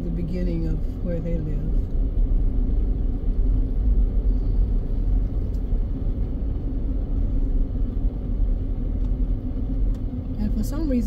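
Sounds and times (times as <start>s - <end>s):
car driving rumble: 0.0s - 11.0s.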